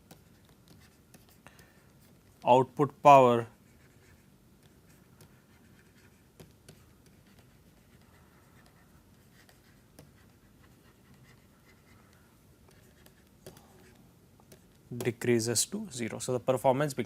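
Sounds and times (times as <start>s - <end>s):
pen tapping and scratching: 0.0s - 2.5s, 3.6s - 15.2s.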